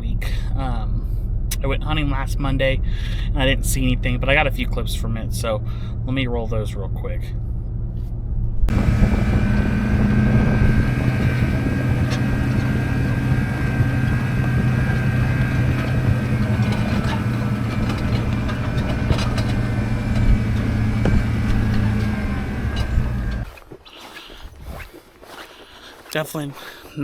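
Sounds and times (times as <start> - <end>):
vehicle engine humming: 0.0 - 23.5.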